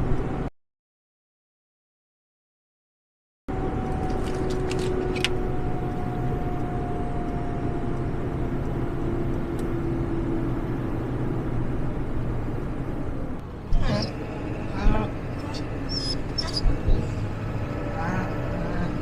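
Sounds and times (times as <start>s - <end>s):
truck road and engine noise: 0.0s - 0.5s, 3.5s - 19.0s.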